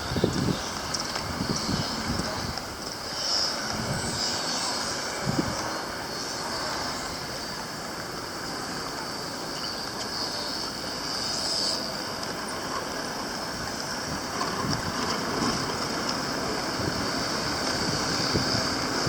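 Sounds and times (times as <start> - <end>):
distant traffic: 0.0 - 19.0
steady high hiss: 0.0 - 19.0.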